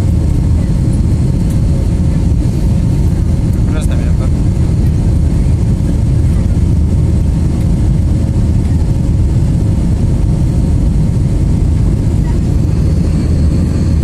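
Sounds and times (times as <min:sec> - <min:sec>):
jet engine roar in cabin: 0:00.0 - 0:14.0.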